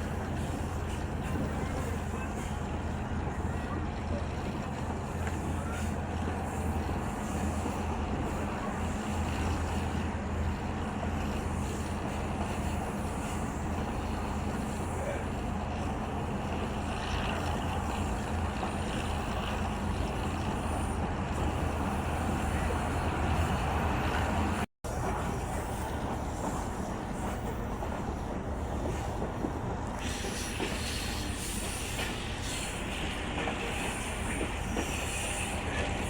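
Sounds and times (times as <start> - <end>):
train rumbling and humming: 0.0 - 36.0.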